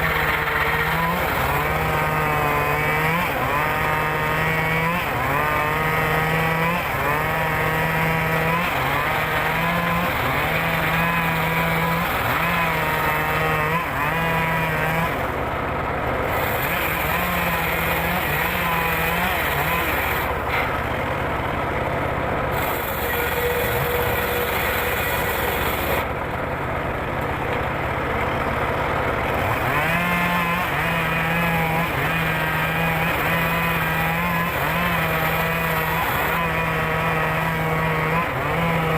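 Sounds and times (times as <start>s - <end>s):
circular saw engine ripping wood: 0.0s - 26.3s, 28.6s - 38.9s.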